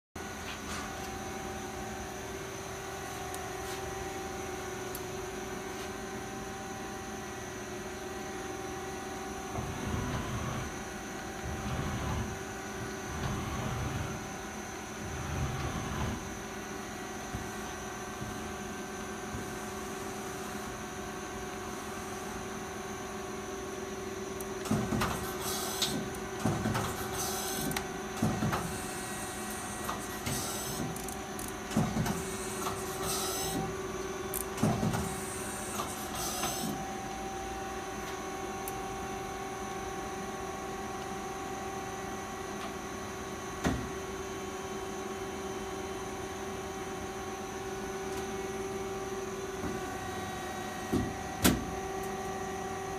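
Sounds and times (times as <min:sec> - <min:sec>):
machine hum with fixed tones: 0:00.2 - 0:52.9.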